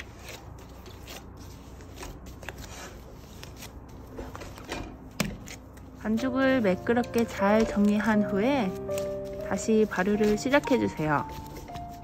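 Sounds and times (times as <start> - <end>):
glove squishing dough: 0.0 - 12.0.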